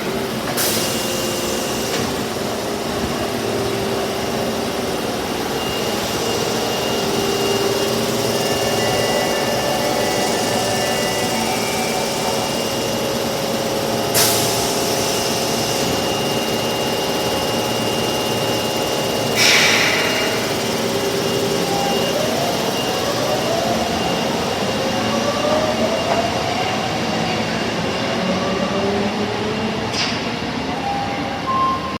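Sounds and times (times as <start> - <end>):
train motor whine rising: 0.0 - 29.9
train electrical hum: 0.0 - 31.9.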